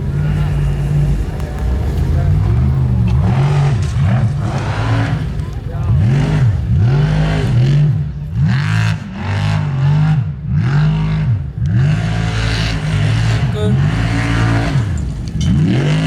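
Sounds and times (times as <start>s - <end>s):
car engine revving hard: 0.0s - 16.0s.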